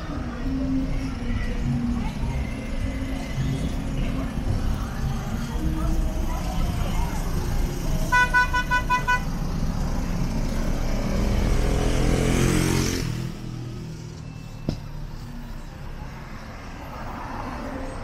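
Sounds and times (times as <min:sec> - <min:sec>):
street traffic: 0:00.0 - 0:18.0
vehicle engine close by: 0:00.0 - 0:18.0.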